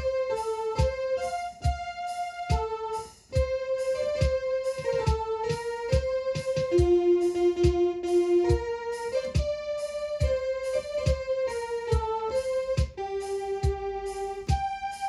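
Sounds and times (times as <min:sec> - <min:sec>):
electronic organ melody: 0:00.0 - 0:15.0
steady low beat: 0:00.0 - 0:15.0.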